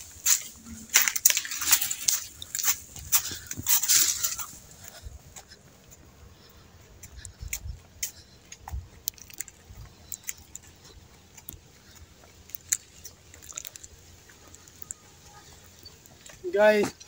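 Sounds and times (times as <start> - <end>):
footsteps on dry leaves: 0.0 - 16.9.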